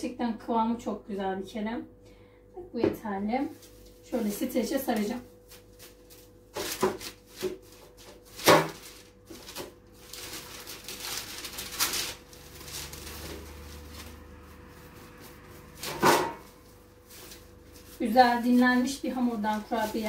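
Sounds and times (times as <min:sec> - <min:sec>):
cling film rustling: 0:03.6 - 0:20.0.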